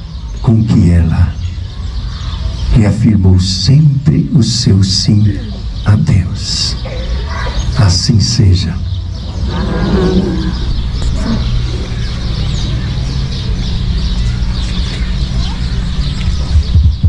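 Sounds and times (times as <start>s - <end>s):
murmur of voices: 0.0s - 17.0s
small birds chirping: 0.0s - 17.0s
steady low hum: 0.0s - 17.0s.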